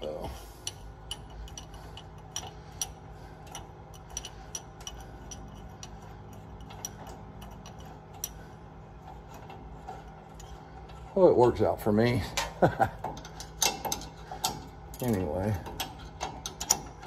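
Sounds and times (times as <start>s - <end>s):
low steady hum: 0.0s - 17.0s
hand ratchet clicking: 0.6s - 11.1s, 12.4s - 17.0s.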